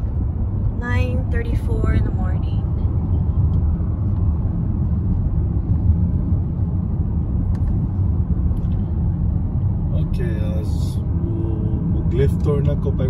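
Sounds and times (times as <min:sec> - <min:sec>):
car road rumble from inside: 0:00.0 - 0:13.0.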